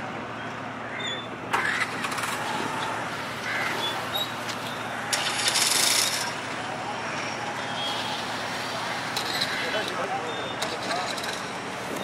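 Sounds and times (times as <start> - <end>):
crowd murmur: 0.0 - 12.0
scooter and motorcycle engines: 0.0 - 12.0.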